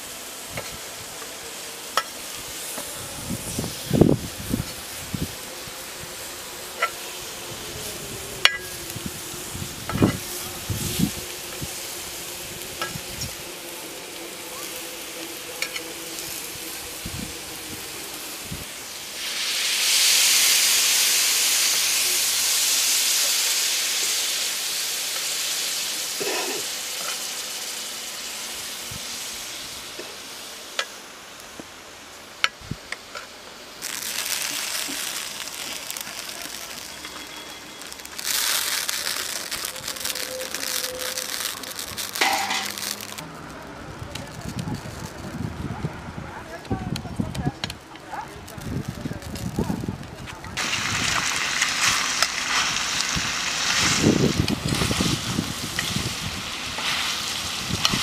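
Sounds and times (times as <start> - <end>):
chicken sizzling in pan: 0.0 - 43.6, 47.6 - 58.0.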